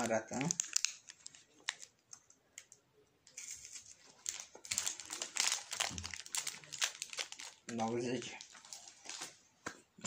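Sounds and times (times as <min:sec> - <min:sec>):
sweet wrapper crinkling: 0:00.0 - 0:09.4.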